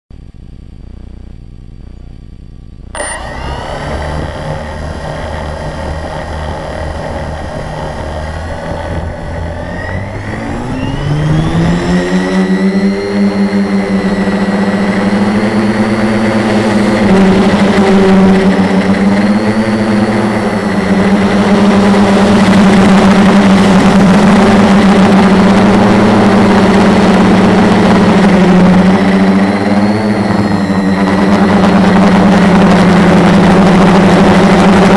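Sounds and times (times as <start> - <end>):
drone motors buzzing: 2.8 - 34.9.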